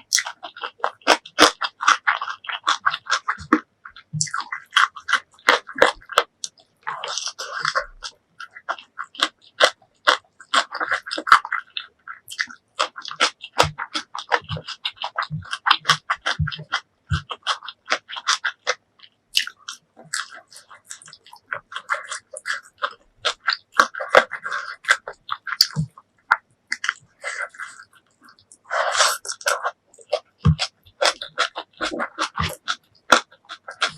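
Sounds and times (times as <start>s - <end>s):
close chewing and mouth sounds: 0.0s - 33.9s.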